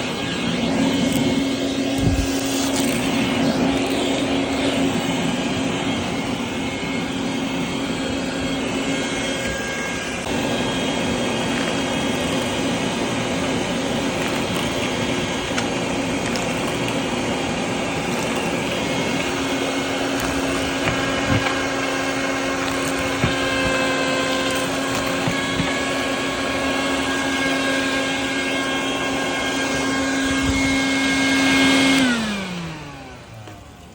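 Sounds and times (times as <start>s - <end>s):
shop vacuum running: 0.0s - 33.9s.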